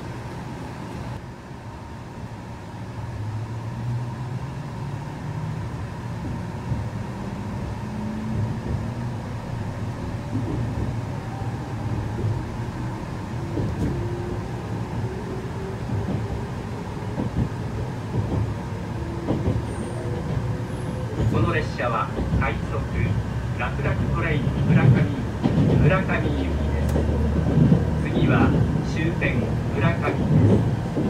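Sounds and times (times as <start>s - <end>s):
train running gear rumble: 2.6s - 31.0s.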